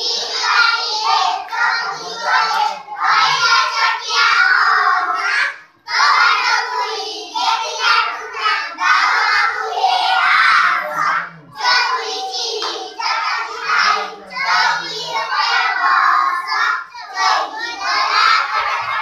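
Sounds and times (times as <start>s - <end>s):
children singing in unison: 0.0s - 19.0s.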